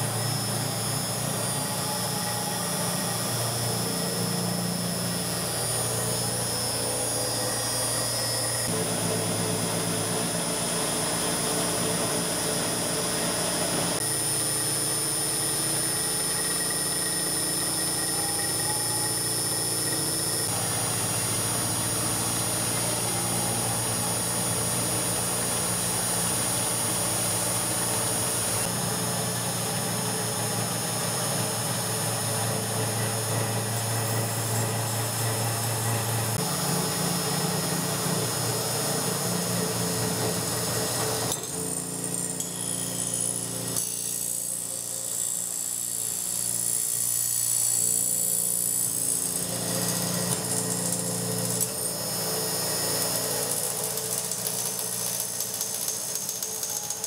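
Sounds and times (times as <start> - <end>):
milling machine cutting metal: 0.0 - 57.0.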